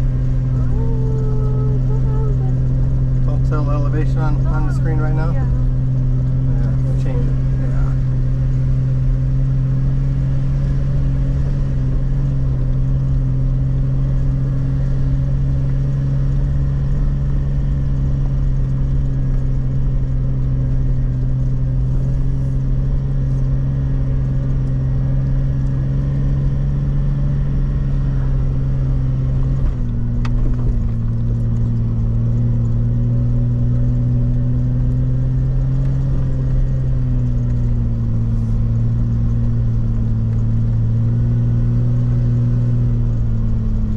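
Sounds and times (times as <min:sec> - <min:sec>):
car engine droning from inside: 0:00.0 - 0:43.9
road rumble: 0:00.0 - 0:43.9.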